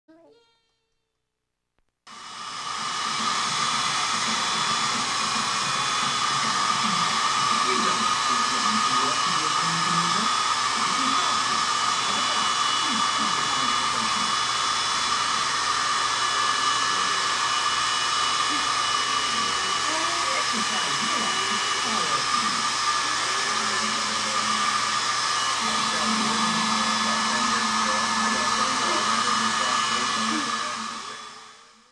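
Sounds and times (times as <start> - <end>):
hair dryer running: 2.1 - 31.9.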